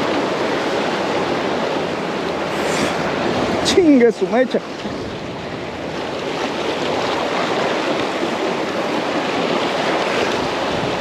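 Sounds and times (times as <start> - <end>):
sea surf washing on beach: 0.0 - 11.0
wind rumbling on microphone: 0.0 - 11.0.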